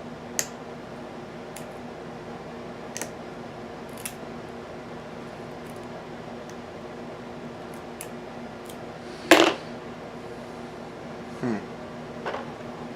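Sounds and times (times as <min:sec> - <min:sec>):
steady hum: 0:00.0 - 0:12.9.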